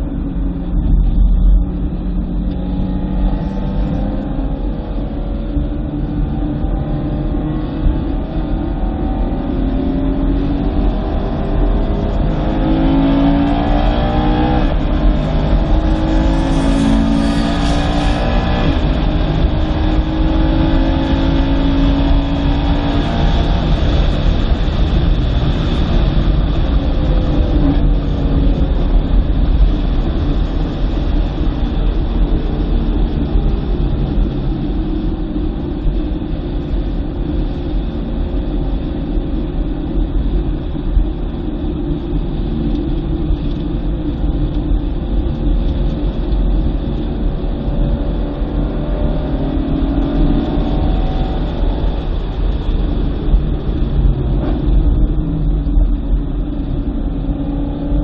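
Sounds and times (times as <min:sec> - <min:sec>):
car engine accelerating hard: 0:00.0 - 0:58.0
low road rumble: 0:00.0 - 0:58.0.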